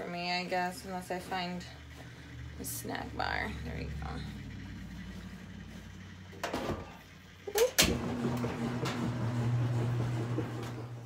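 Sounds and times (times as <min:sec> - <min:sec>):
microwave humming: 0:00.0 - 0:11.0.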